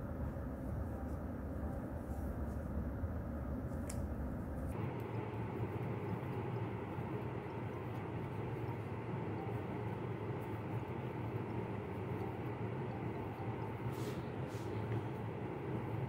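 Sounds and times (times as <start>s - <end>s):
low background hum with hiss: 0.0s - 16.0s.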